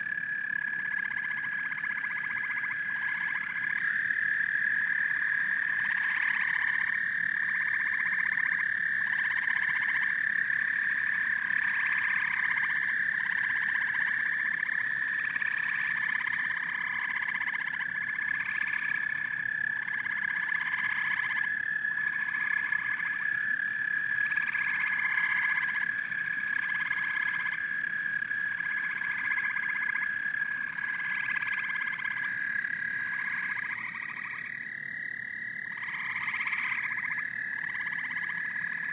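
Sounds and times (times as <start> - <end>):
frogs croaking: 0.0 - 38.9.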